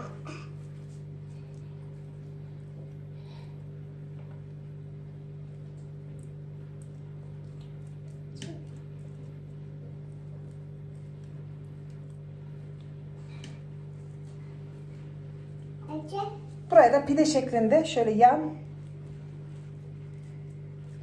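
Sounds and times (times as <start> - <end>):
low hum of held tones: 0.0 - 21.0.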